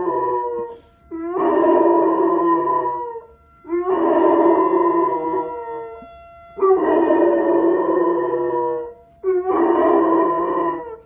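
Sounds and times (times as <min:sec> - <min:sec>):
dog howling: 0:00.0 - 0:06.0, 0:06.6 - 0:11.0
siren tone: 0:00.0 - 0:11.0.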